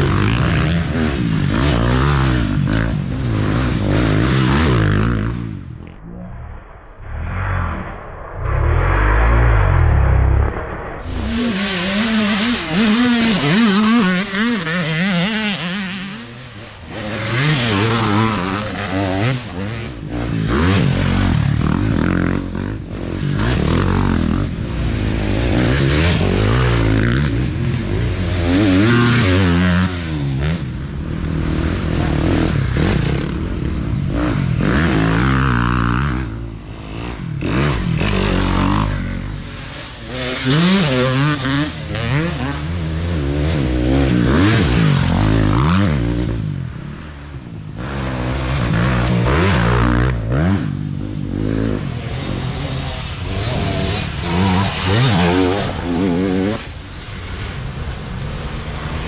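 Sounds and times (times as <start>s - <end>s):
dirt bike engines revving past: 0.0s - 6.6s, 7.2s - 59.0s.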